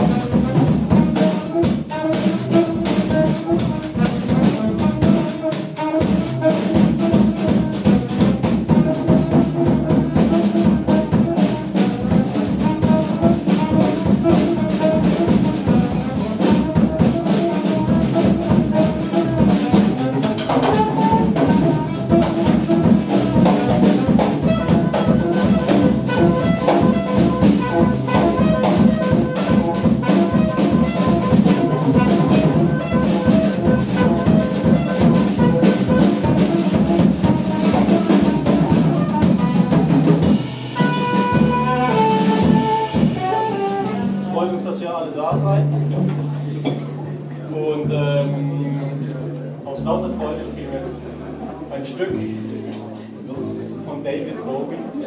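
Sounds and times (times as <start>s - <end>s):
saxophone melody: 0.0s - 44.4s
drum kit: 0.0s - 47.2s
bass: 0.0s - 55.0s.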